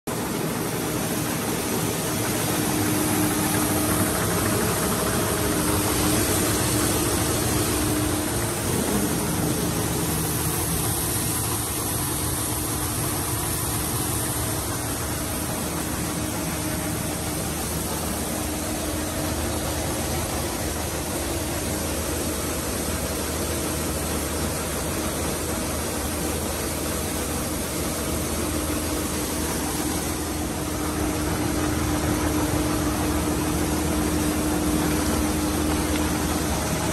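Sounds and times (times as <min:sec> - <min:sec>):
machine hum with hiss: 0:00.1 - 0:36.9
rice streaming out of chutes: 0:00.1 - 0:36.9.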